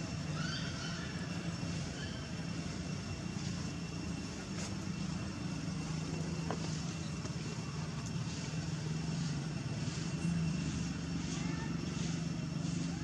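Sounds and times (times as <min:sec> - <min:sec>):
faint high steady tones: 0:00.0 - 0:13.0
low engine-like hum: 0:00.0 - 0:13.0.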